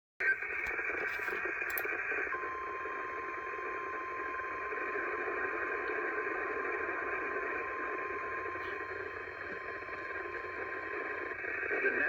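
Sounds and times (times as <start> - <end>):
radio static hiss: 0.2 - 12.0.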